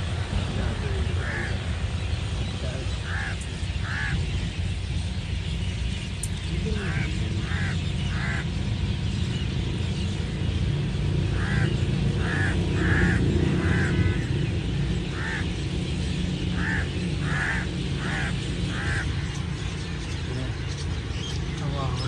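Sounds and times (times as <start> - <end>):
flock of birds calling: 0.0 - 22.0
steady low rumble: 0.0 - 22.0.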